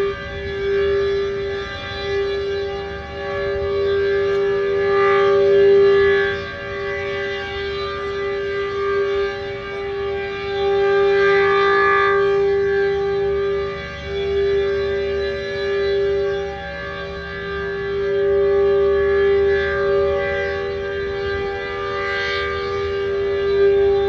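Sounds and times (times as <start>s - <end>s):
dual-tone siren: 0.0s - 24.0s.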